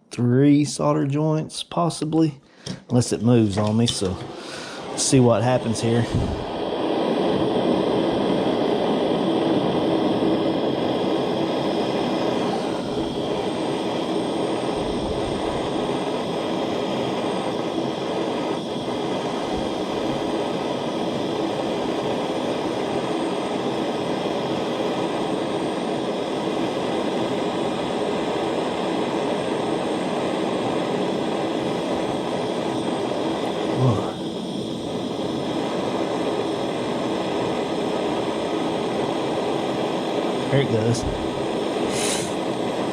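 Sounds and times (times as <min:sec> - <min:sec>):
soldering torch flame rushing: 0:02.6 - 0:42.9.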